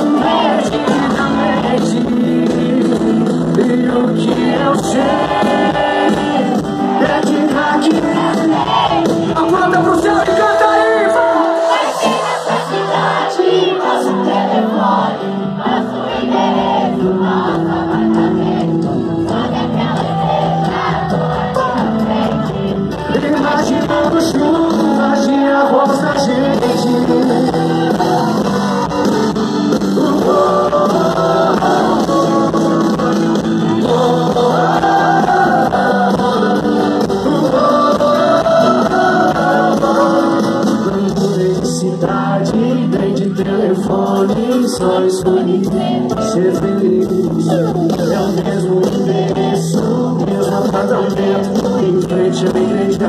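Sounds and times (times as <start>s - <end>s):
person singing: 0.0s - 15.0s, 15.8s - 53.0s
crowd singing along: 0.0s - 53.0s
live band music: 0.0s - 53.0s.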